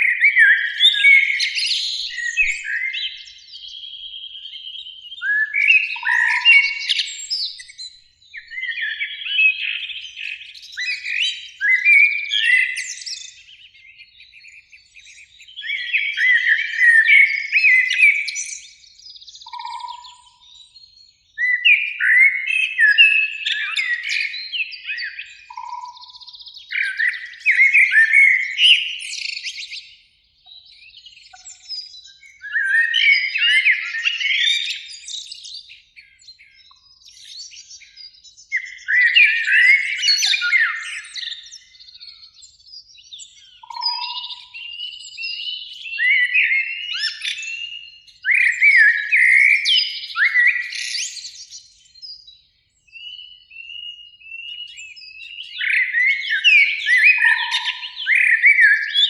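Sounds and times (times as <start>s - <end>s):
blackbird singing: 0.0s - 59.0s.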